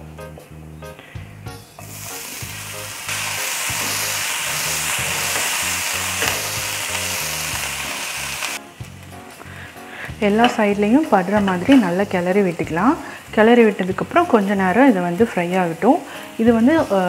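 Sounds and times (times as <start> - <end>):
vegetables sizzling in hot oil: 1.8 - 17.0.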